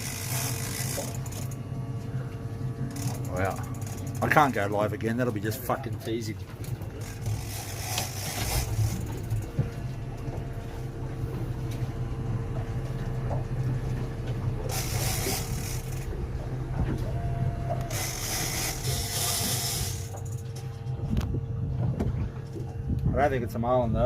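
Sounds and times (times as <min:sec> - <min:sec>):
outboard engine idling: 0:00.0 - 0:24.0.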